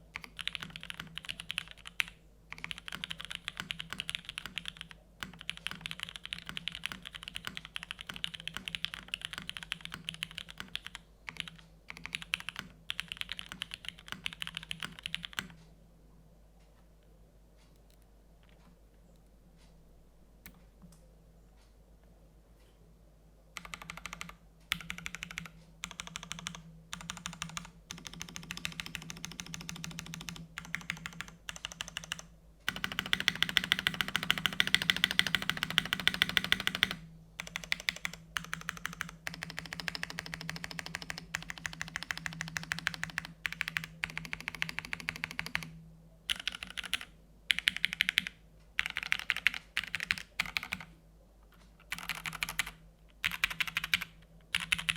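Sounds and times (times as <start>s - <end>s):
mechanical keyboard typing: 0.2s - 15.6s, 23.6s - 45.7s, 46.3s - 50.9s, 51.8s - 54.9s.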